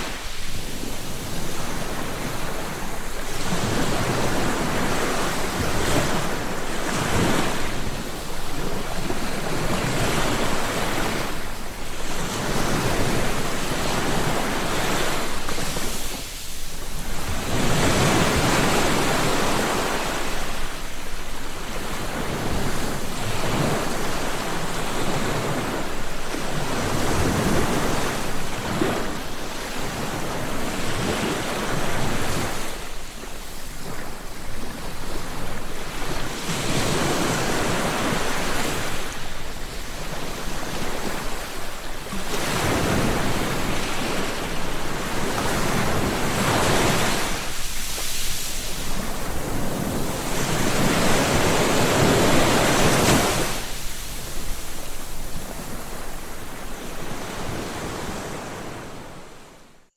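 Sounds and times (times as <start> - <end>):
sea waves breaking on shore: 0.0 - 59.8.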